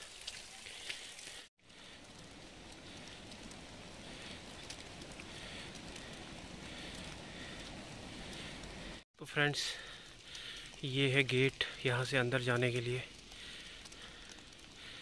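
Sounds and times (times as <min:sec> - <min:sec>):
hiss of wet snowfall: 0:00.0 - 0:15.0
snowflakes pattering: 0:00.0 - 0:15.0.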